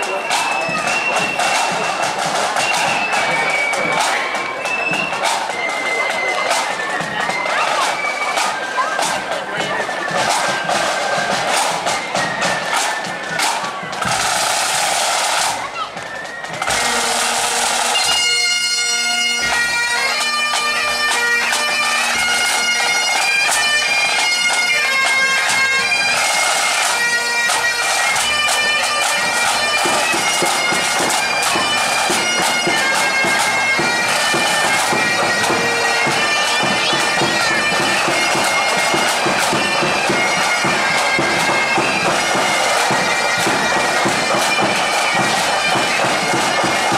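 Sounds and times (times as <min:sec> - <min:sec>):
bagpipes playing melody: 0:00.0 - 0:46.9
drums beating time: 0:00.0 - 0:46.9.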